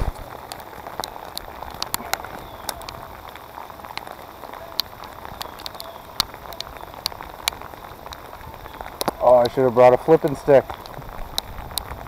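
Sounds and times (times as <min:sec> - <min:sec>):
rain on water hiss: 0:00.0 - 0:12.0
raindrop ticks: 0:00.0 - 0:12.0.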